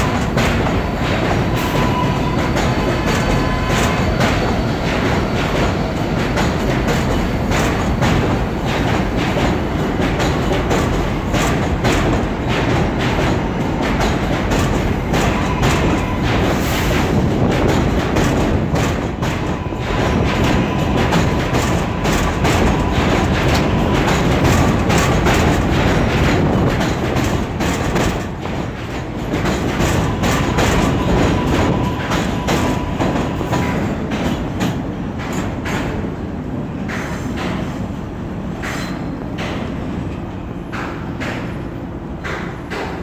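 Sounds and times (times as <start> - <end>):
train wheels clacking over rail joints: 0.0 - 43.0.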